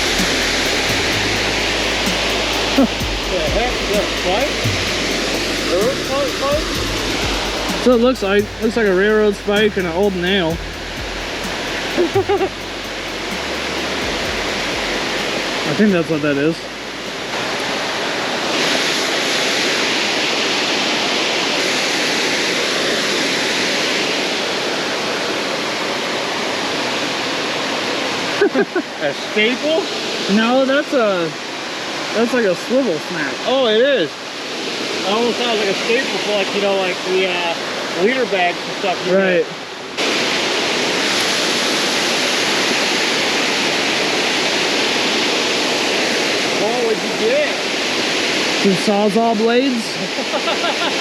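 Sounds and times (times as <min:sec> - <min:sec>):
water rushing over spillway: 0:00.0 - 0:51.0.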